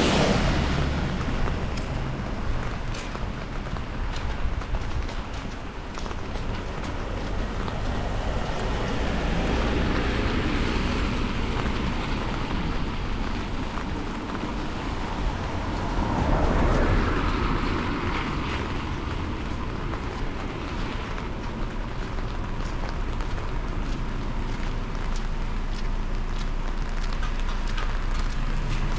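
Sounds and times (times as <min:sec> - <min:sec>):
traffic on wet street: 0:00.0 - 0:28.9
tyres hissing on road: 0:00.0 - 0:28.9.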